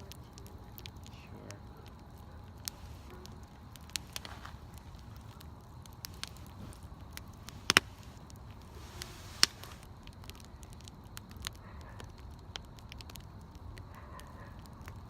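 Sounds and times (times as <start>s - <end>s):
bonfire crackling: 0.0s - 15.0s
loud fire pops: 0.0s - 15.0s.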